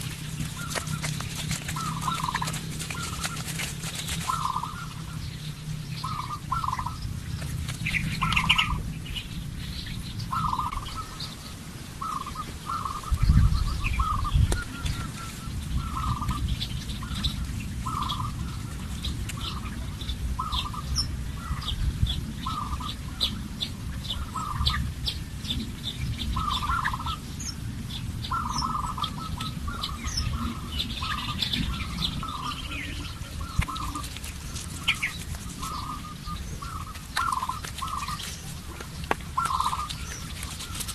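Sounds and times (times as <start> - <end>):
birds calling: 0.0 - 40.9.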